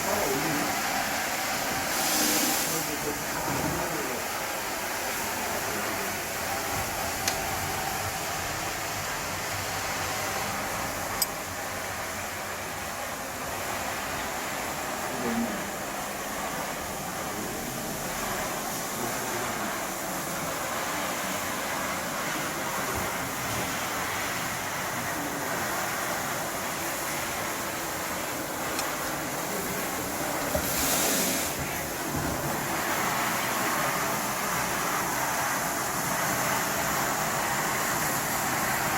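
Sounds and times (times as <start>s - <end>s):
floor scrubber whirring and hissing: 0.0s - 38.9s.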